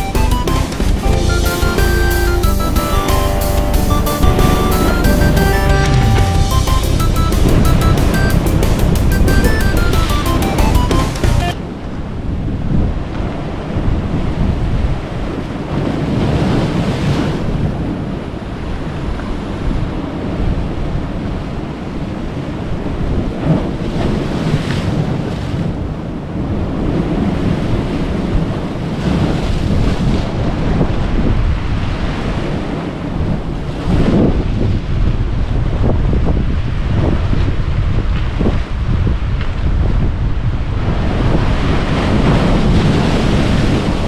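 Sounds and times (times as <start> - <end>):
surf breaking on rocky shore: 0.6 - 44.0
wind on microphone: 3.6 - 44.0.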